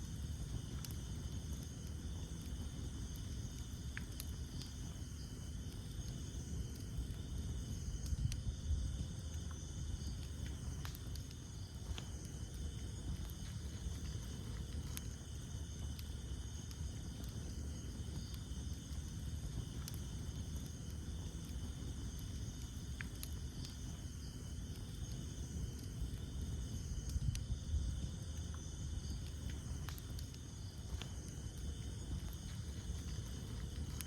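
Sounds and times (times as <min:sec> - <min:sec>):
burning wood crackling and popping: 0:00.0 - 0:34.0
flames rumbling: 0:00.0 - 0:34.0
night insects chirring: 0:00.0 - 0:34.0.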